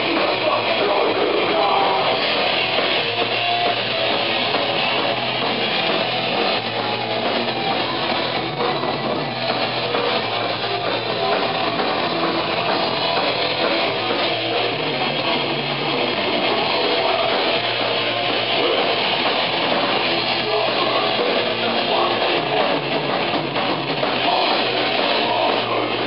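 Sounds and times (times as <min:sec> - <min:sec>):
distorted electric guitars: 0:00.0 - 0:26.0
drum kit playing: 0:00.0 - 0:26.0.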